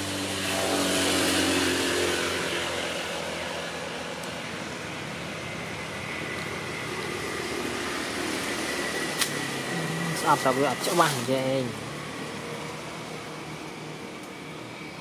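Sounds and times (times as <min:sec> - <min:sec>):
faint engine hum: 0:00.0 - 0:15.0.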